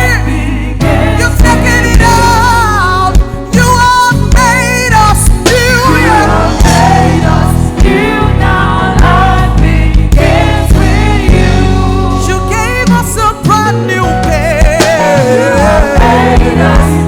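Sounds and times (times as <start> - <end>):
low bass accompaniment: 0.0 - 17.0
worship team singing: 0.0 - 17.0.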